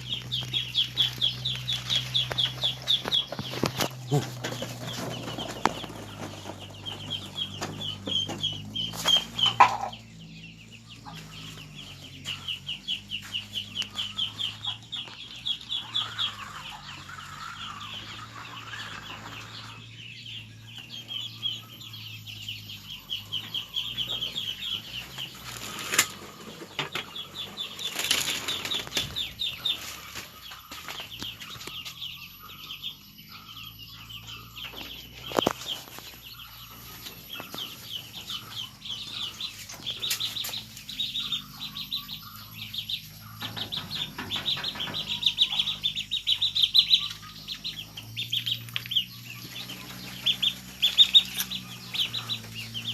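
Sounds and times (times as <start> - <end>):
chickens calling: 0.0 - 52.9.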